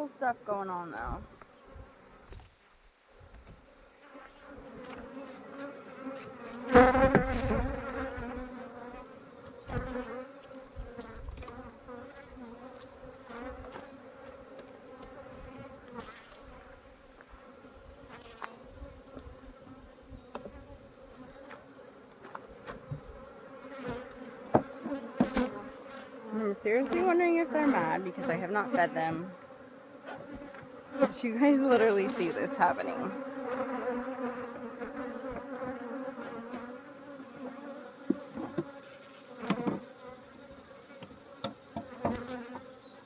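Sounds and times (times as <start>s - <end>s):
honeybees buzzing: 0.0s - 43.0s
bee buzzing close by: 0.1s - 43.0s.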